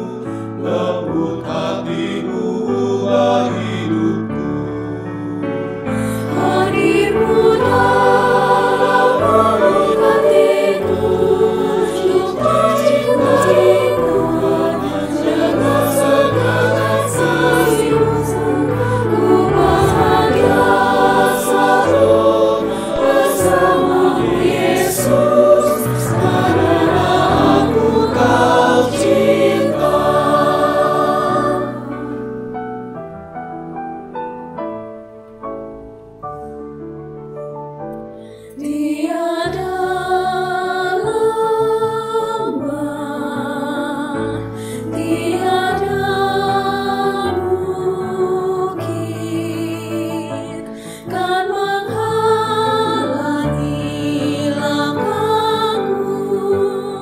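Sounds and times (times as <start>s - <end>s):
mixed choir singing a hymn: 0.0s - 32.6s, 38.5s - 57.0s.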